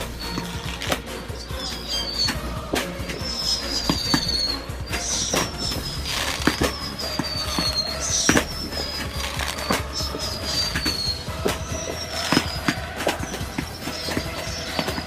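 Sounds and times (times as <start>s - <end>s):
whistling fireworks: 0.0s - 15.0s.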